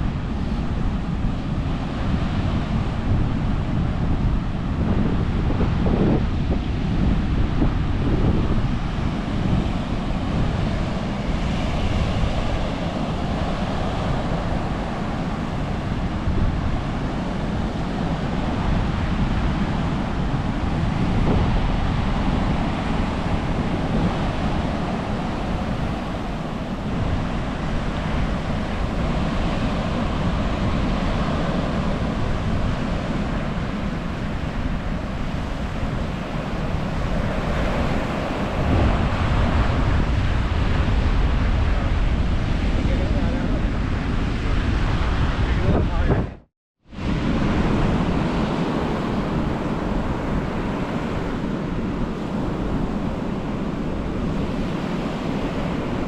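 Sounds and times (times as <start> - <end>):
ocean surf on beach: 0.0 - 56.0
wind buffeting microphone: 0.0 - 56.0.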